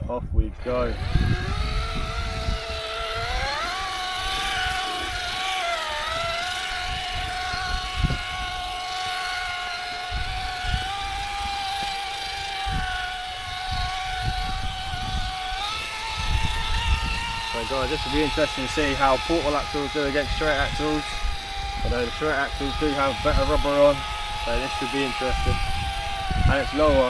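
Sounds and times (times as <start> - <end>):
electric motor and gearbox whine: 0.3 - 27.0.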